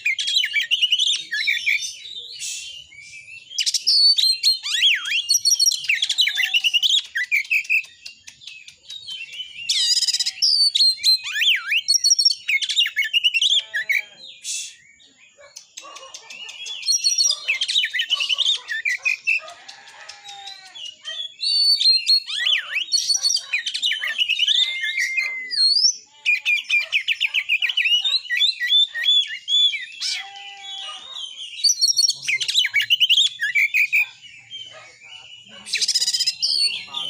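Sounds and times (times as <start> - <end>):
bird song chirps and trills: 0.0 - 37.0.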